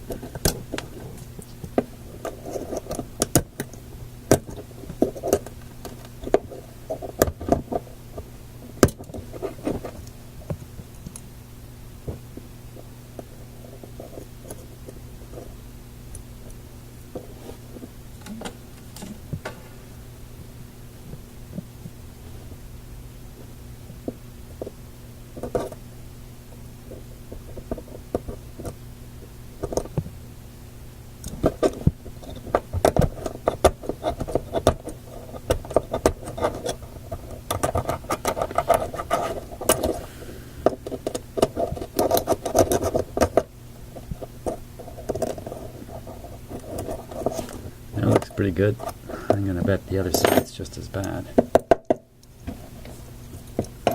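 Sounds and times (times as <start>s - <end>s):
light clicks and scrapes of small parts: 0.0s - 11.3s, 12.1s - 19.8s, 23.4s - 25.8s, 26.5s - 30.1s, 31.2s - 51.6s
steady low hum: 0.0s - 53.9s.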